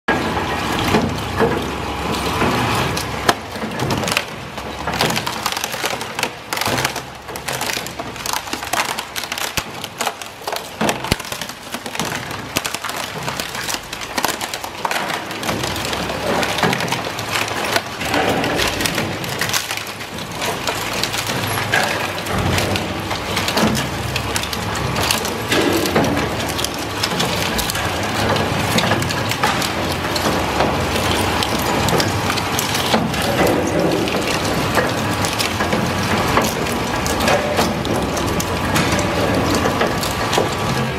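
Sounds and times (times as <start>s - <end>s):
shredder crushing plastic: 0.1s - 40.9s.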